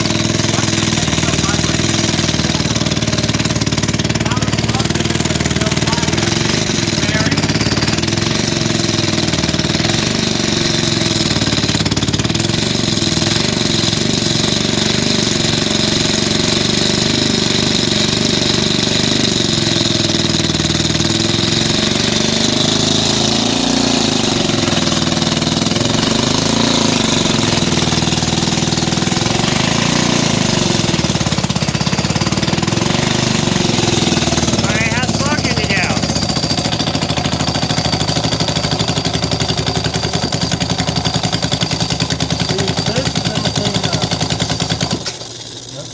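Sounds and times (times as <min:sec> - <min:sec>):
small engine running loudly: 0:00.0 - 0:45.9.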